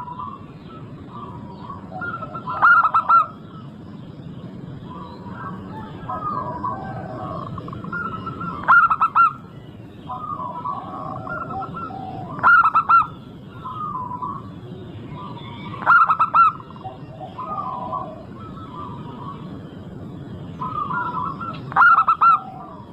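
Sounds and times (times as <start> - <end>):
doves cooing: 0.0 - 22.9.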